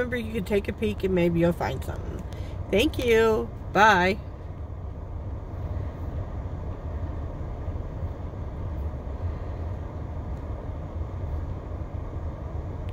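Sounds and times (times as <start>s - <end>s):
car cabin low rumble: 0.0s - 12.9s.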